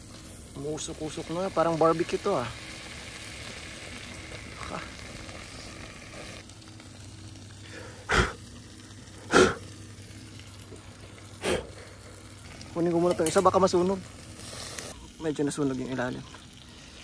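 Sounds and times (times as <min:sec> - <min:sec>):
food sizzling on grill: 0:00.0 - 0:17.0.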